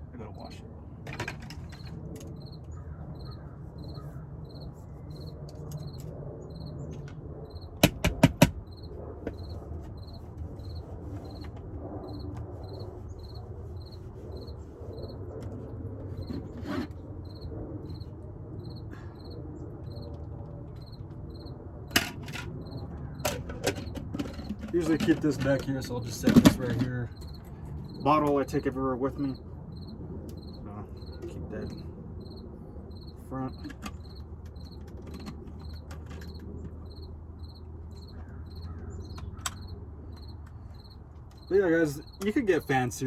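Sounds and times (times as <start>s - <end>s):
cricket chirping: 1.1s - 43.0s.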